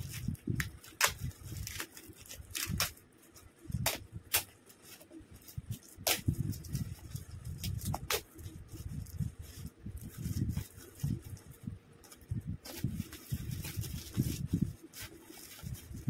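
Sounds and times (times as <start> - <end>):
foil wrapping paper crinkling: 0.0 - 16.0.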